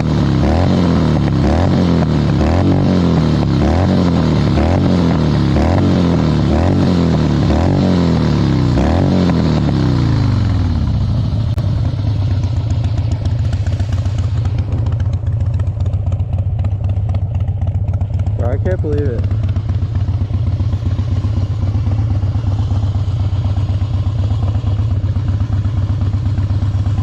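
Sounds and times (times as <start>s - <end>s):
motorcycle engine revving and idling: 0.0s - 27.0s.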